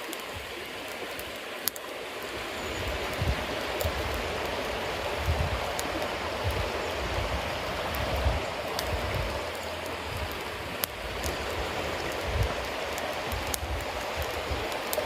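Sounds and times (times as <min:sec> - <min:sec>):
bonfire hissing: 0:00.0 - 0:15.0
fire crackling and popping: 0:00.0 - 0:15.0.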